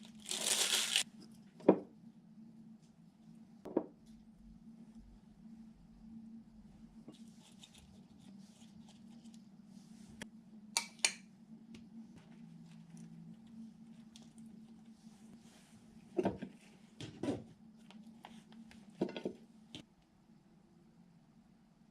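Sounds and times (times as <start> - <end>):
steady low hum: 1.0 - 21.9.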